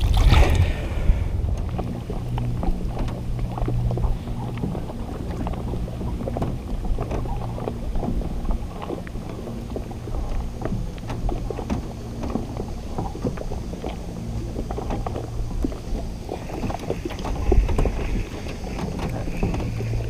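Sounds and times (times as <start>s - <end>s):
low steady hum: 0.0s - 20.0s
waves lapping against boat hull: 0.0s - 20.0s.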